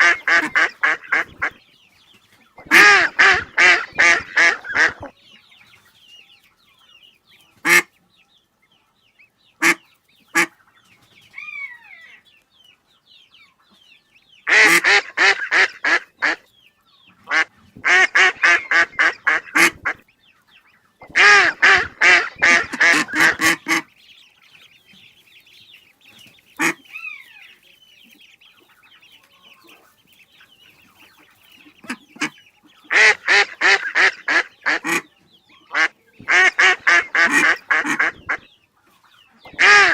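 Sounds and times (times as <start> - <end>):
ducks quacking: 0.0 - 5.6, 7.3 - 8.0, 9.4 - 12.2, 14.4 - 39.9
small birds twittering: 0.0 - 39.9.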